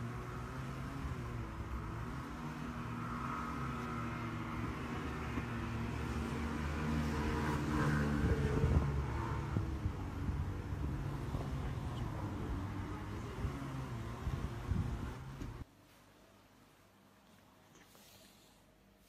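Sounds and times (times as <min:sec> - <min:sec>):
car engine and road noise: 0:00.0 - 0:15.7.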